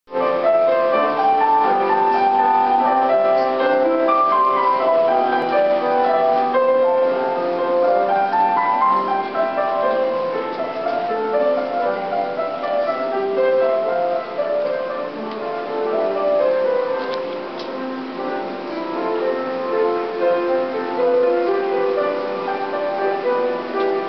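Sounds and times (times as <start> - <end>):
piano melody over chords: 0.1 - 24.0.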